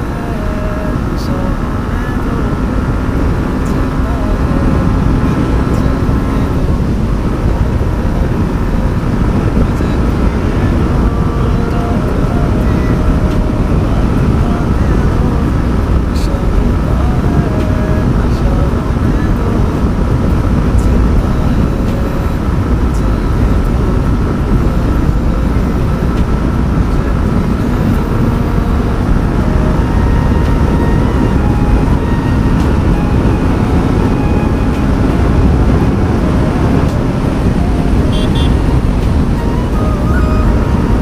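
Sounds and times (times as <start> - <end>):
wind rumble on microphone: 0.0 - 41.0.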